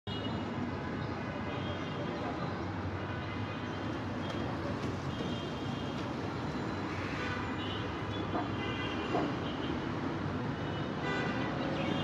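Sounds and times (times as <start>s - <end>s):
street vehicle rumble: 0.1s - 12.0s.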